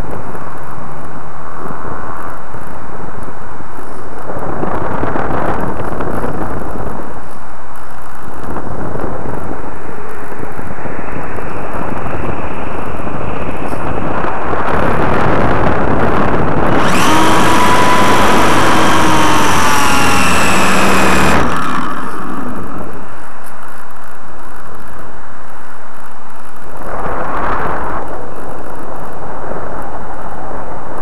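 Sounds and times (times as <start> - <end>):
airflow rushing over microphone: 0.0 - 31.0
electric motor and propeller whine: 0.0 - 31.0.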